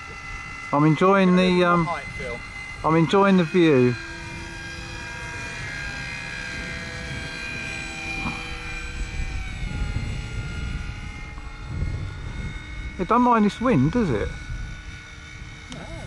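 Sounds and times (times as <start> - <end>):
model airplane motor whining: 0.0 - 16.0
wind rumbling on microphone: 0.0 - 16.0.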